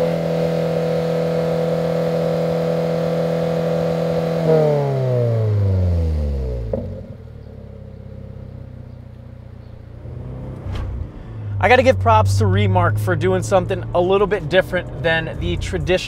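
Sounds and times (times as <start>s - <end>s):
car engine revving: 0.0s - 16.0s
exhaust snap: 0.0s - 16.0s.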